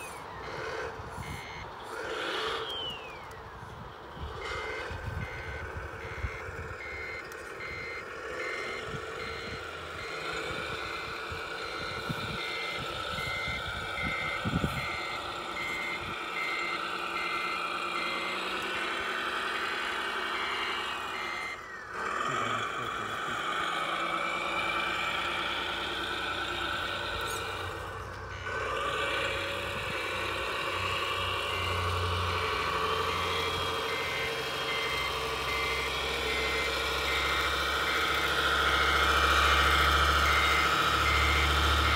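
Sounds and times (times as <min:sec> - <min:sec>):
engine-like running sound: 0:00.0 - 0:41.9
reversing beeper: 0:00.0 - 0:41.9.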